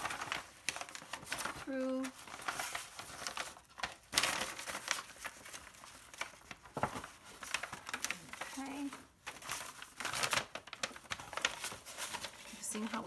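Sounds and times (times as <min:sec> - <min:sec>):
paper and cardboard rustling: 0:00.0 - 0:13.0.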